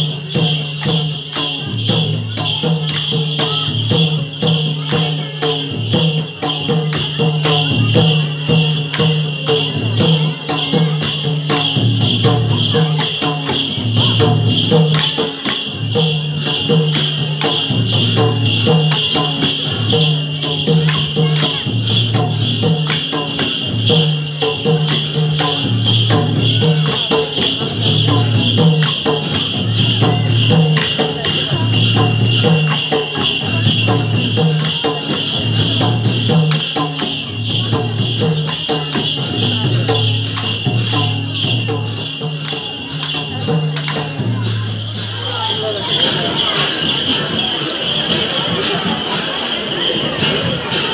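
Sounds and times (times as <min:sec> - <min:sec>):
bright jingling: 0:00.0 - 0:50.9.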